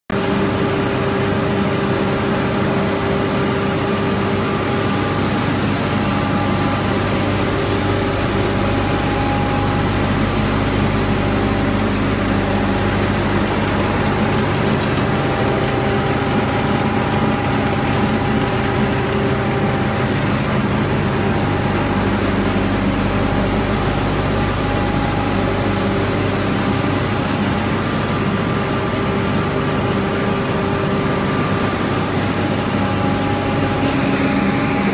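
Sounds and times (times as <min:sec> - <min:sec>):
paper slitting machine drone: 0:00.1 - 0:34.9
steady humming tones: 0:00.2 - 0:34.9.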